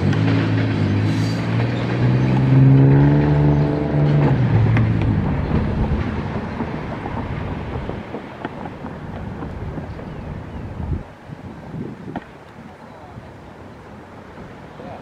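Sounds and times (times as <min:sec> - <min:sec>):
freight cars rumbling past: 0:00.0 - 0:15.0.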